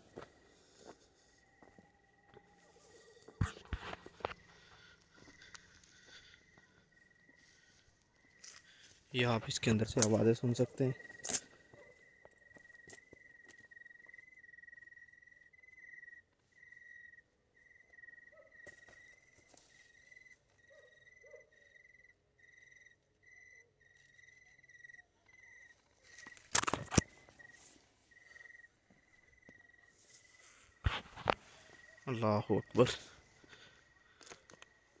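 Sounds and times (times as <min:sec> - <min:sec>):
cricket trilling: 0:00.6 - 0:35.0.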